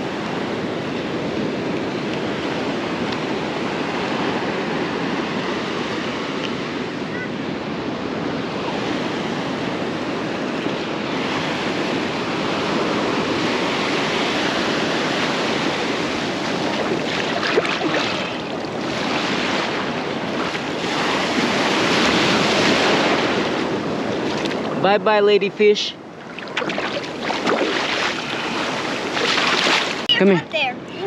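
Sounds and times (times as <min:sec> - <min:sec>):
wind on microphone: 0:00.0 - 0:24.9, 0:26.0 - 0:31.0
ocean surf washing onto beach: 0:00.0 - 0:31.0.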